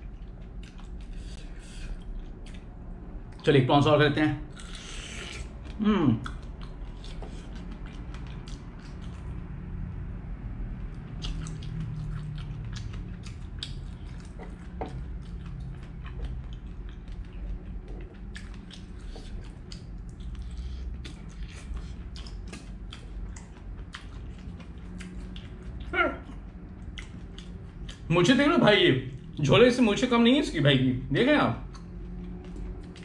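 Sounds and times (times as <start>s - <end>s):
chewing: 0.0s - 3.5s, 4.5s - 9.6s, 10.8s - 28.4s, 31.6s - 33.0s
low steady hum: 0.0s - 33.0s.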